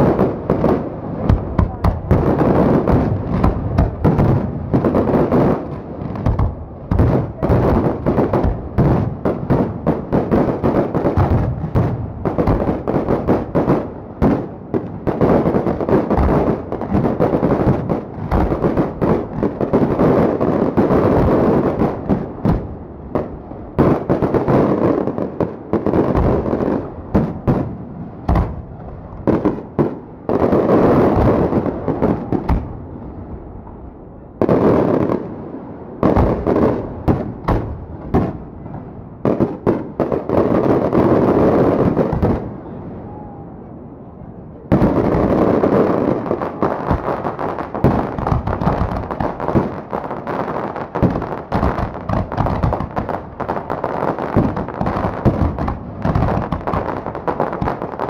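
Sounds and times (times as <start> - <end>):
fireworks bursts and bangs: 0.0 - 43.4, 44.6 - 58.0.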